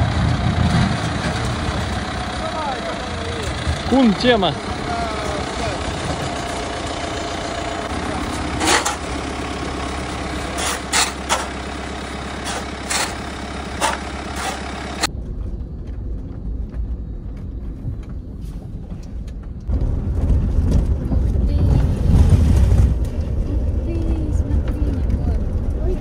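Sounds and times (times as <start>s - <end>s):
dull low rumble: 0.0s - 26.0s
heavy vehicle engine running: 0.0s - 26.0s.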